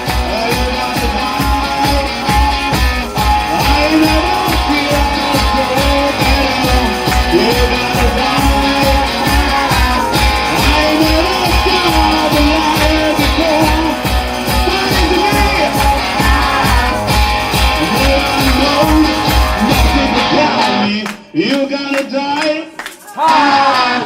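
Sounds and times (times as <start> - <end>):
steady drum beat: 0.0 - 20.8
bending lead guitar: 0.0 - 21.0
blues-rock band playing: 0.0 - 21.0.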